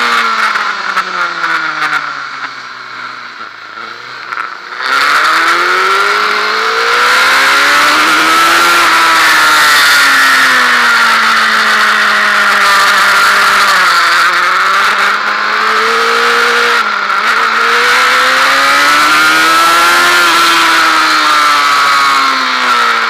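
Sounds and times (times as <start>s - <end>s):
motorcycle engine at speed: 0.0s - 23.0s.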